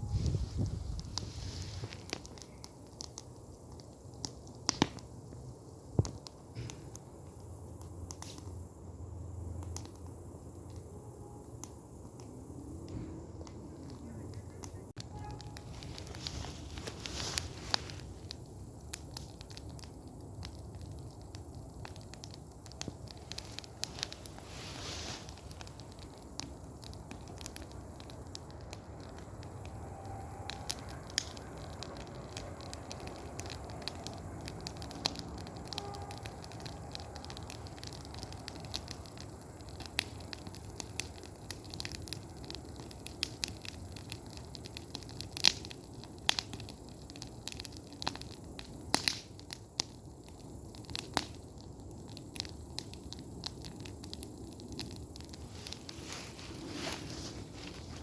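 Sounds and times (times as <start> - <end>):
bonfire crackling and popping: 0.0 - 58.0
low rush of flame: 0.0 - 58.0.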